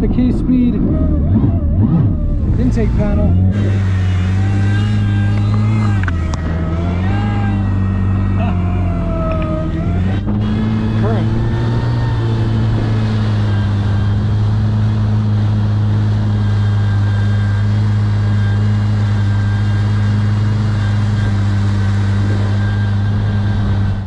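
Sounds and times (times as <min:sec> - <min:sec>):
jet ski engine drone: 0:00.0 - 0:24.0.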